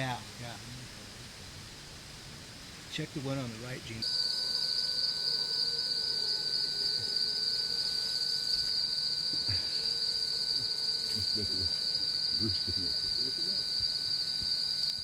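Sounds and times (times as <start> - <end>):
faint steady insect tone: 0.0 - 15.0
insects trilling: 0.0 - 15.0.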